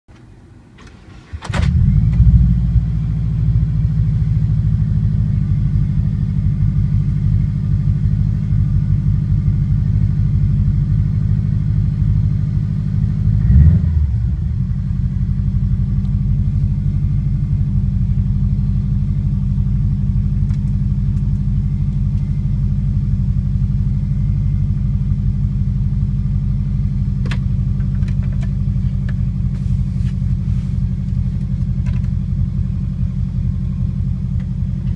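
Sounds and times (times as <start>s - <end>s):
car engine starting and idling: 0.1s - 34.9s.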